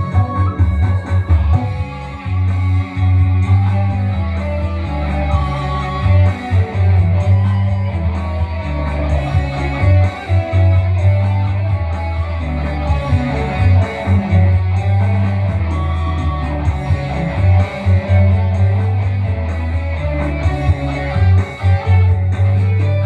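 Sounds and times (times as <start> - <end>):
electric guitar melody: 0.0 - 23.0
heavy bass line: 0.0 - 23.0.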